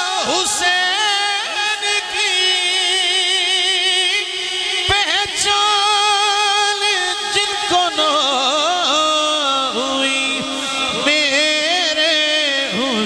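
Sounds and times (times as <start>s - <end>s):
man singing into microphone: 0.0s - 13.0s.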